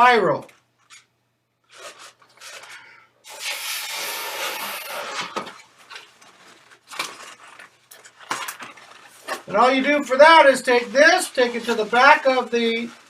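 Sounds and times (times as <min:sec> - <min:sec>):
balloons squeaking: 0:00.8 - 0:13.0.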